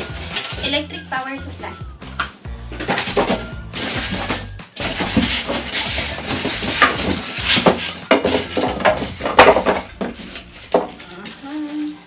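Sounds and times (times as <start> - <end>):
styrofoam scraping and thumping: 0.0 - 0.9, 2.7 - 12.0.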